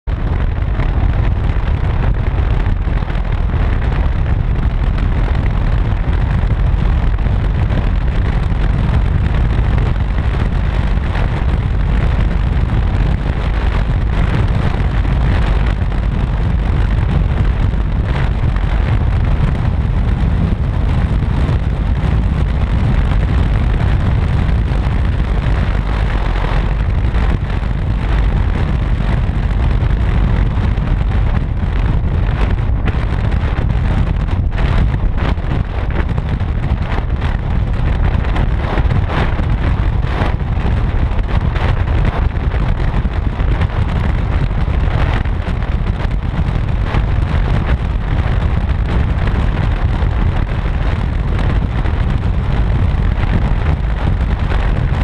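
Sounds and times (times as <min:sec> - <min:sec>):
vehicle and road noise: 0:00.0 - 0:55.0
wind rumble on microphone: 0:00.0 - 0:55.0.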